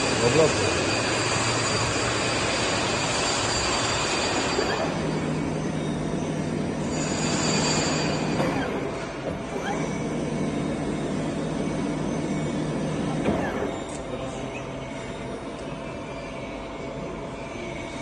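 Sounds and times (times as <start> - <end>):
boring mill running: 0.0 - 18.0
thin high whines: 0.0 - 18.0.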